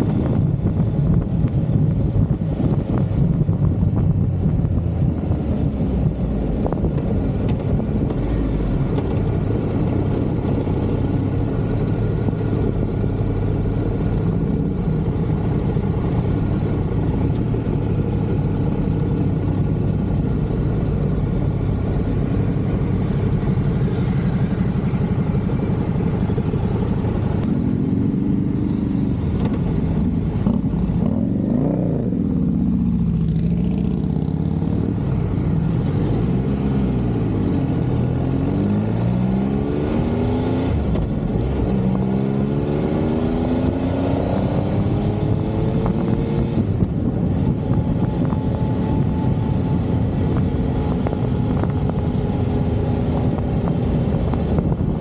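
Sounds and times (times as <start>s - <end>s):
motorcycle engine running: 0.0s - 38.4s, 39.9s - 55.0s.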